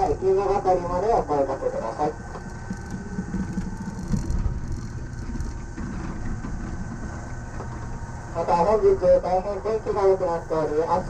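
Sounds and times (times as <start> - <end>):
faint steady whine: 0.0 - 11.0
train rumbling: 0.0 - 11.0.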